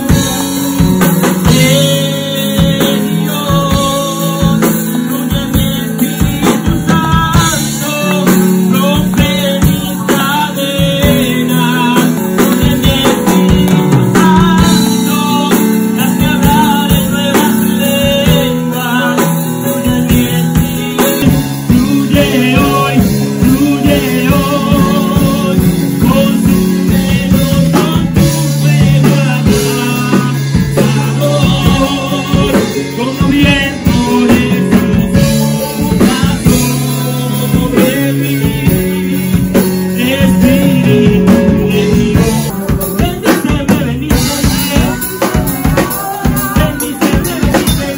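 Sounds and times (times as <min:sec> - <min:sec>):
drums and bass: 0:00.0 - 0:47.9
live band playing: 0:00.0 - 0:47.9
person singing: 0:00.0 - 0:47.9.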